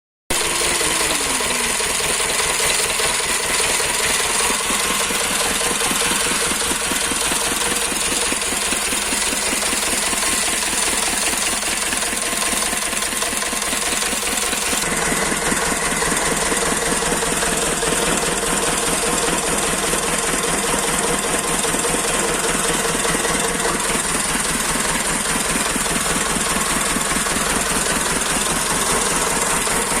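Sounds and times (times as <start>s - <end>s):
diesel engine running: 0.3s - 30.0s.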